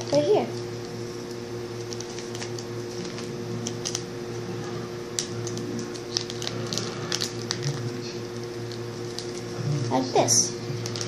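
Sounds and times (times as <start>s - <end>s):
steady low hum: 0.0s - 11.0s
paper and sticky tape crinkling: 0.8s - 4.1s, 5.1s - 11.0s.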